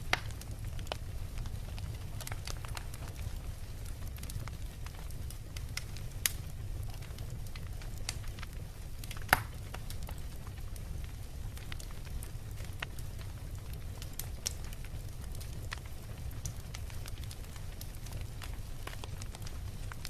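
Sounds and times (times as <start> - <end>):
bonfire crackling: 0.0 - 20.0
fire sharp pops: 0.0 - 20.0.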